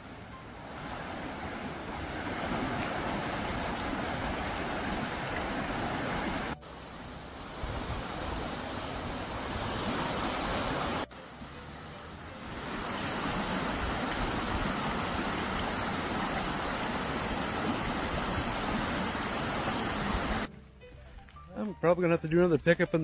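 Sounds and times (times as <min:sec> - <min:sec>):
creek water rushing: 0:00.0 - 0:20.5.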